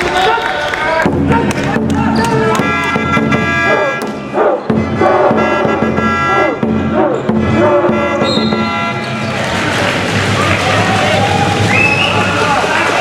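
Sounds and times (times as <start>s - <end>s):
crowd singing or chanting: 1.3s - 12.2s.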